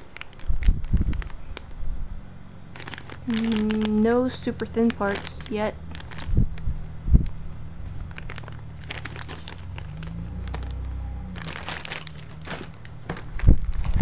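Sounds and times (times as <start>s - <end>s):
plastic bags crinkling: 0.0s - 1.9s, 2.6s - 14.0s
steady low hum: 0.0s - 14.0s.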